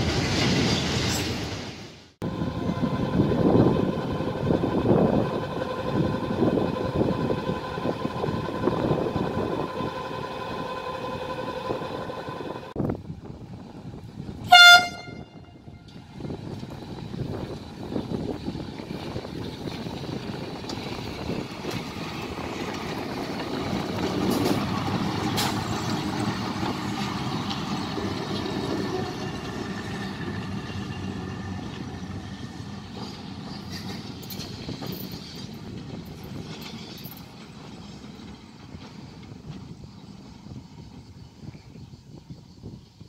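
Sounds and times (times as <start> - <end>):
electric locomotive rolling past: 0.0 - 43.0.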